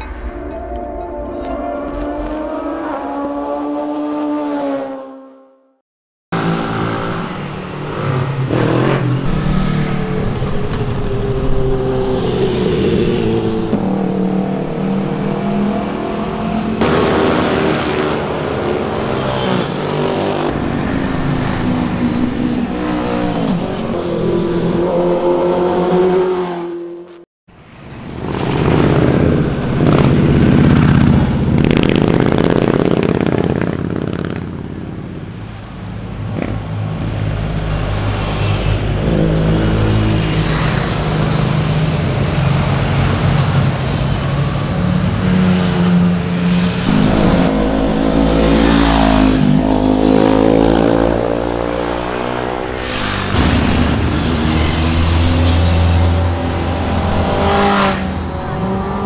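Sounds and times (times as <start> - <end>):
motorcycle engines revving: 2.4 - 5.5, 6.4 - 27.2, 27.9 - 59.0.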